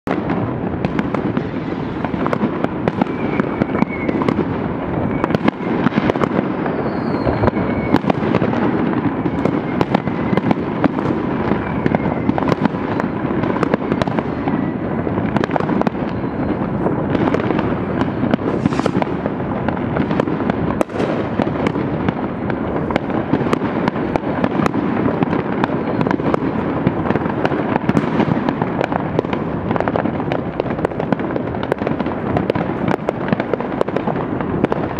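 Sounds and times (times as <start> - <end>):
fireworks bangs and crackles: 0.0 - 34.9
firework whistles: 0.1 - 34.9.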